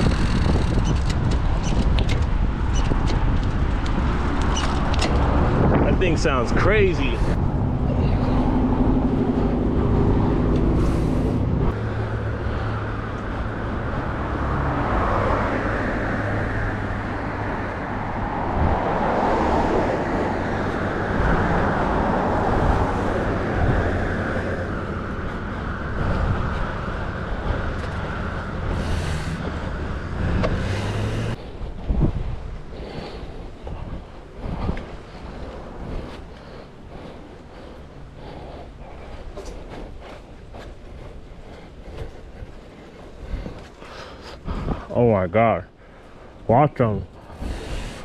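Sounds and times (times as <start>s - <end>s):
road traffic: 0.0s - 48.0s.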